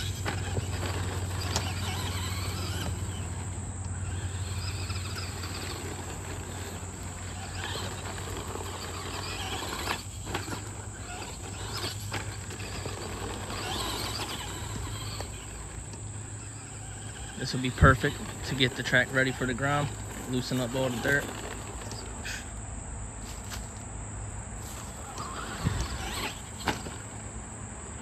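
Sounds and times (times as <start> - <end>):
insects chirping: 0.0 - 28.0
rc truck driving on dirt: 0.0 - 28.0
steady low hum: 0.0 - 28.0.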